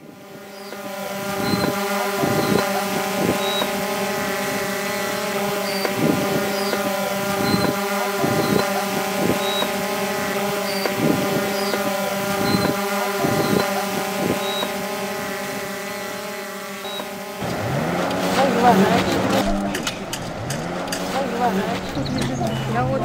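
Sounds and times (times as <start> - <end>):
drone propellers humming: 0.0 - 23.0.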